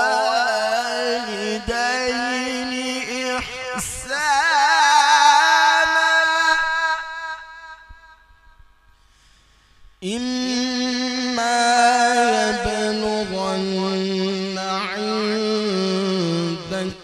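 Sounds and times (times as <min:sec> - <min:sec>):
man reciting in long ornamented notes: 0:00.0 - 0:08.3, 0:10.0 - 0:17.0.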